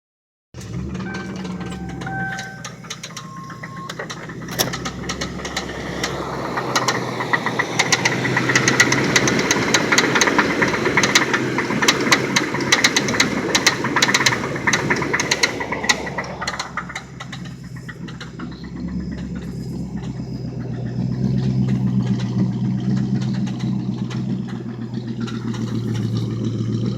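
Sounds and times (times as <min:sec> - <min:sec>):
car engine running with heavy knock: 0:00.6 - 0:26.9.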